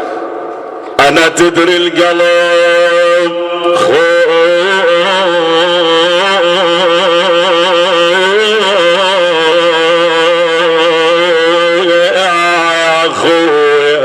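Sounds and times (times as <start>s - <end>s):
man chanting a lament: 1.0s - 14.0s.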